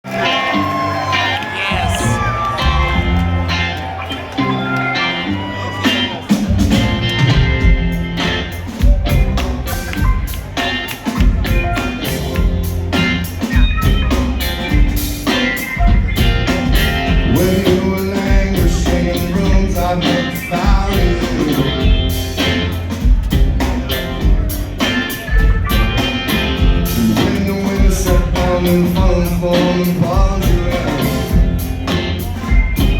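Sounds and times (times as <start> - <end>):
electric guitar: 0.0 - 32.9
live rock band playing: 0.0 - 32.9
drums steady beat: 1.5 - 4.0, 5.8 - 32.9.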